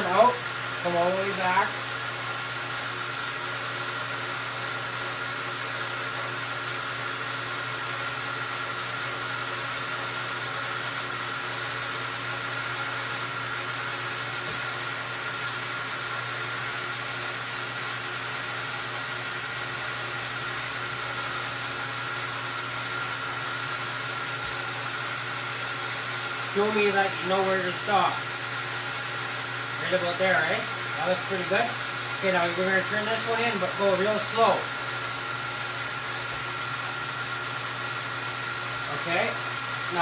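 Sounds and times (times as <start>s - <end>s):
metal lathe running: 0.0s - 40.0s.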